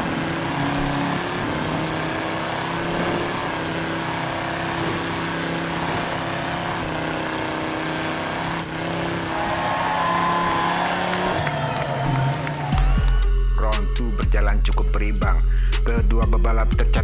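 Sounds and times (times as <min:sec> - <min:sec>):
racing car engines droning: 0:00.0 - 0:15.6.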